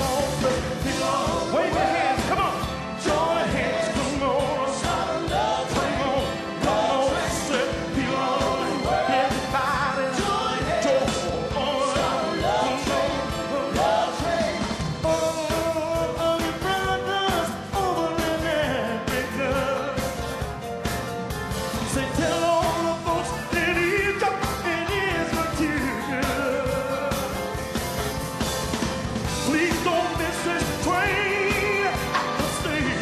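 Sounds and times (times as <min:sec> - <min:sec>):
man singing: 0:00.0 - 0:20.3, 0:21.8 - 0:27.6, 0:29.3 - 0:33.0
bass guitar: 0:00.0 - 0:33.0
drums steady beat: 0:00.0 - 0:33.0.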